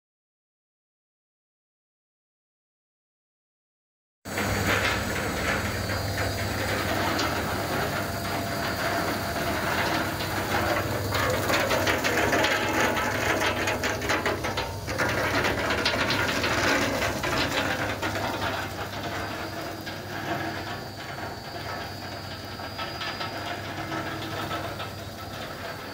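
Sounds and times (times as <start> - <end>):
hazelnuts rattling on conveyor: 4.3 - 25.9
machinery humming: 4.3 - 25.9.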